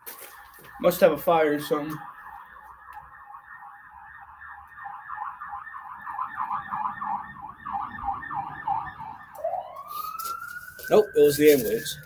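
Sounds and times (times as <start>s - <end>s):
ambulance siren yelping: 0.0s - 12.0s.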